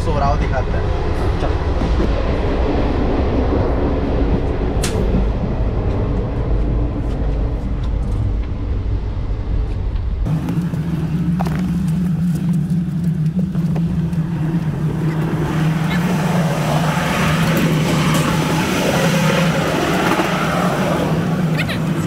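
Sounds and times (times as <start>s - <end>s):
train running rumble: 0.0s - 22.0s
steady low hum: 0.4s - 22.0s.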